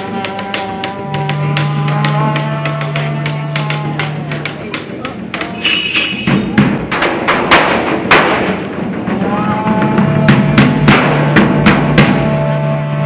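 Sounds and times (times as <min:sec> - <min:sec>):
heavy bass drum strikes: 0:01.1 - 0:12.6.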